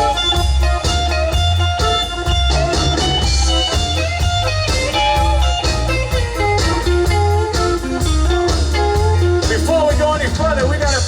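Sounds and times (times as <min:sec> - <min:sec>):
electric guitar lead bending notes: 0:00.0 - 0:11.0
live country band playing: 0:00.0 - 0:11.0.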